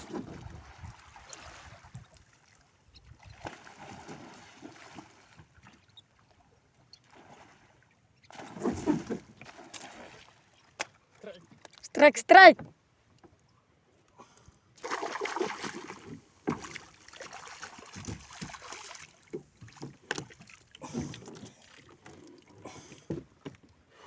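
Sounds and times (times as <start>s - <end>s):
water splashing around boat: 0.0s - 12.5s, 14.8s - 24.0s.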